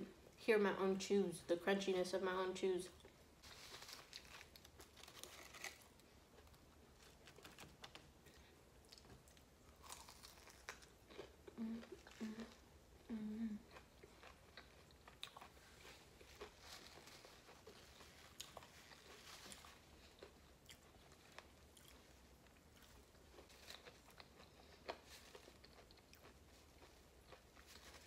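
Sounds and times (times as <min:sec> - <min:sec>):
crunching and chewing fried chicken: 0:03.0 - 0:28.0.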